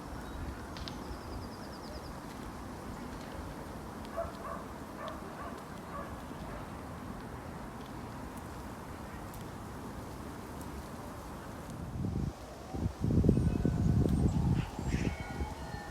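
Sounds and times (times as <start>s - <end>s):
outdoor background noise: 0.0s - 15.9s.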